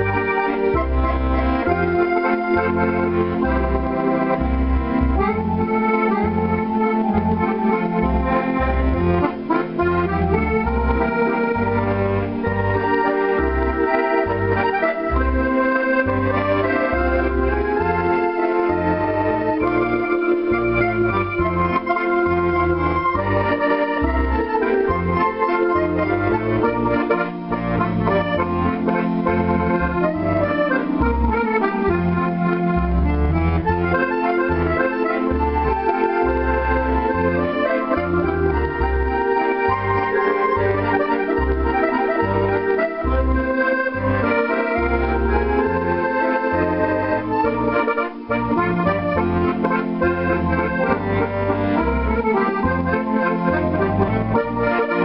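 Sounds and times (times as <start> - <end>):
accordion tune: 0.0 - 55.0
pulsing accordion bass: 0.0 - 55.0.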